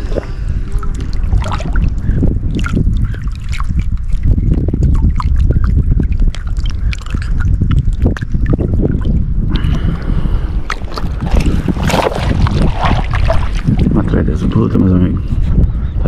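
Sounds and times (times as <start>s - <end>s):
water splashing and lapping: 0.0s - 14.6s
wind buffeting microphone: 0.0s - 16.0s.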